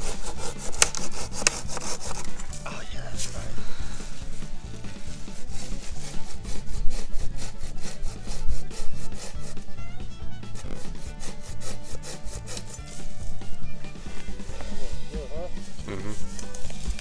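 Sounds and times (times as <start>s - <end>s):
hand saw cutting wood: 0.0s - 17.0s.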